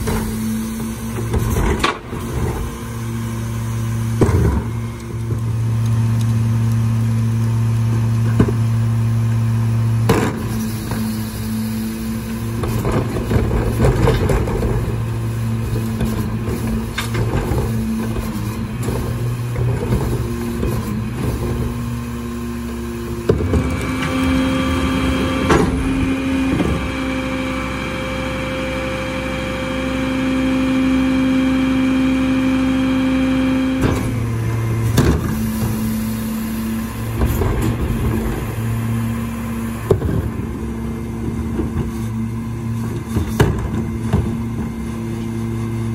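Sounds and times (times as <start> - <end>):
hydraulic whine: 0.0 - 45.9.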